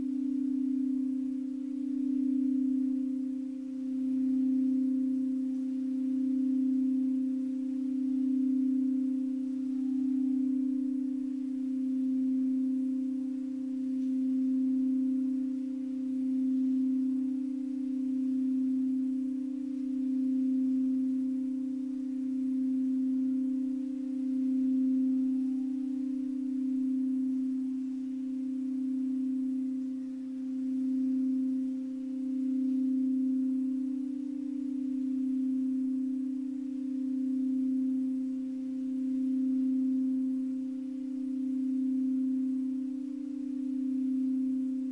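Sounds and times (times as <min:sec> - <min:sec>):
singing bowl tone: 0:00.0 - 0:44.9.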